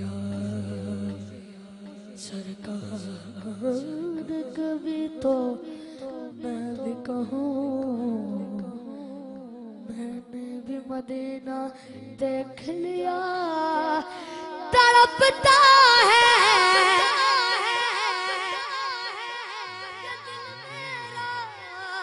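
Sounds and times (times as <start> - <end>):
boy singing unaccompanied: 2.2 - 22.0.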